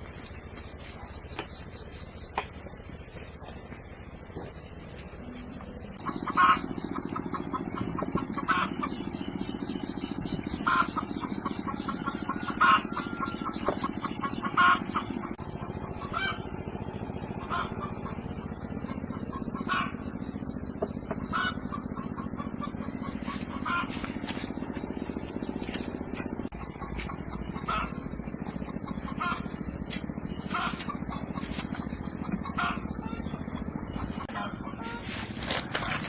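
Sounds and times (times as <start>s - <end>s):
steady low hum: 0.0s - 36.0s
chickens clucking: 5.9s - 36.0s.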